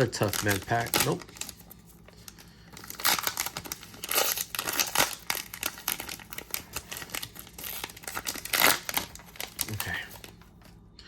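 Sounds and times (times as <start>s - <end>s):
wrapper crinkling and tearing: 0.0s - 10.4s.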